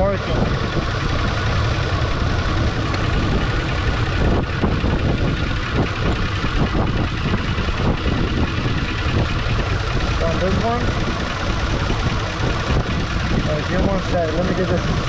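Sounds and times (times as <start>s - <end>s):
car engine idling and misfiring: 0.0s - 15.0s
electric cooling fan running: 0.0s - 15.0s.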